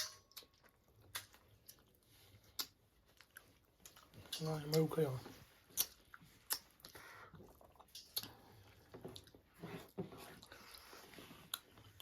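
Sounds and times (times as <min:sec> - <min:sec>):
chewing with lip smacks: 0:00.0 - 0:12.0.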